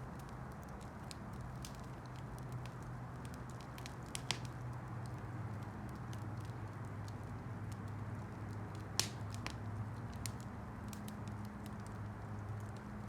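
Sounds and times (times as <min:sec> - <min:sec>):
campfire crackling and popping: 0:00.0 - 0:13.0
low steady fire rumble: 0:00.0 - 0:13.0.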